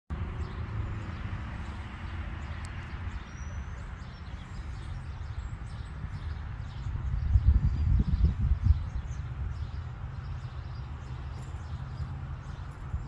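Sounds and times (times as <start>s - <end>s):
wind rumbling on microphone: 0.2s - 13.0s.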